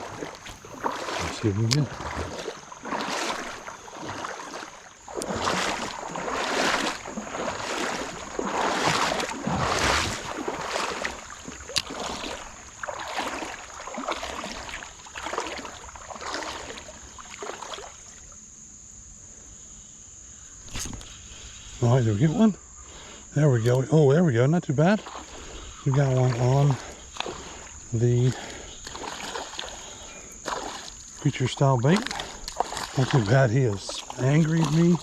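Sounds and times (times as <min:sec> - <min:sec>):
water sloshing and splashing: 0:00.0 - 0:18.4, 0:20.6 - 0:23.1, 0:24.8 - 0:35.0
high-pitched insect drone: 0:00.0 - 0:35.0.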